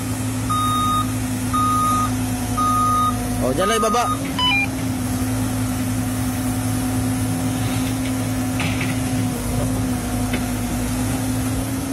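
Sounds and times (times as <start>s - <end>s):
excavator diesel engine droning: 0.0s - 11.9s.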